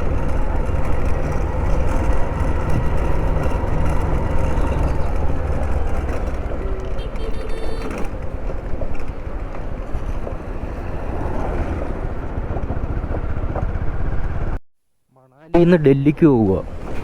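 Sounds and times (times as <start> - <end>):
moving vehicle noise: 0.0 - 14.6, 15.2 - 17.0
wind rumbling on microphone: 0.0 - 14.6.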